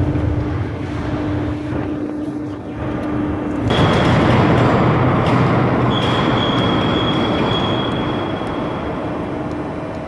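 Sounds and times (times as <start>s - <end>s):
high steady whine: 0.0s - 10.0s.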